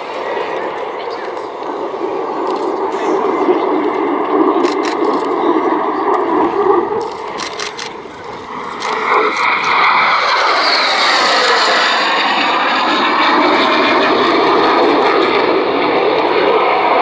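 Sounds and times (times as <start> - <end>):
jet engine roaring: 0.0 - 17.0.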